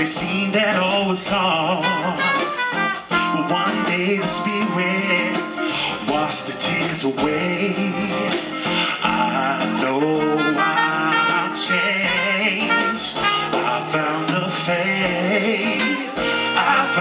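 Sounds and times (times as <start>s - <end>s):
drums: 0.0s - 17.0s
keyboard: 0.0s - 17.0s
trumpet line: 1.6s - 6.8s, 8.5s - 17.0s
voices singing: 3.3s - 17.0s.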